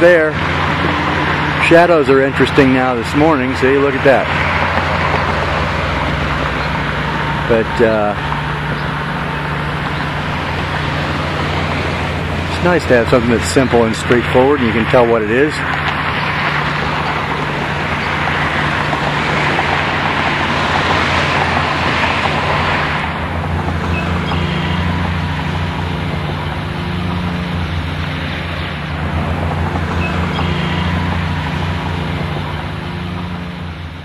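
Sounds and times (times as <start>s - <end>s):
low hum: 0.0s - 34.0s
road traffic hiss: 0.0s - 34.0s.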